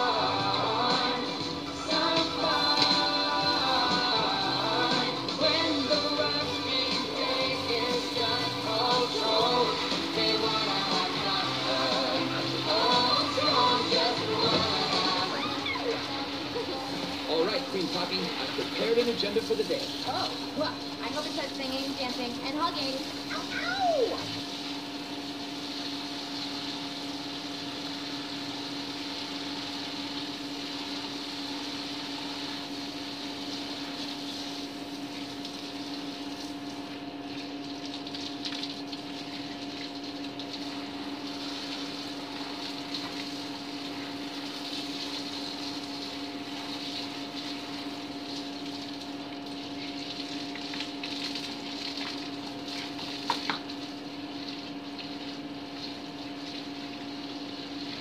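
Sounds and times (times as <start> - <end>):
water flowing hiss: 0.0 - 58.0
water pump humming: 0.0 - 58.0.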